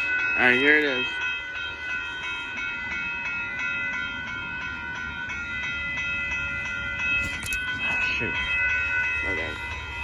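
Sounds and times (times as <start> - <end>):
grade crossing bell ringing: 0.0 - 10.0.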